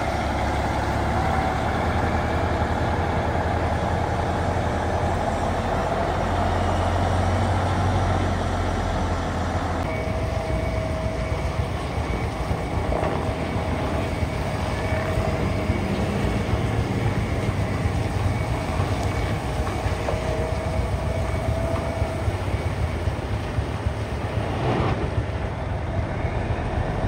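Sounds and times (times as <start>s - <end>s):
diesel engine low rumble: 0.0s - 27.0s.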